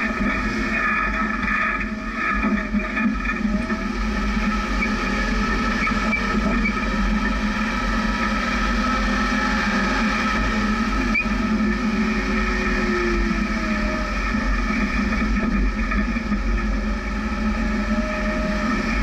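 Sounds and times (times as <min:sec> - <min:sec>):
vehicle engine running at low speed: 0:00.0 - 0:19.0.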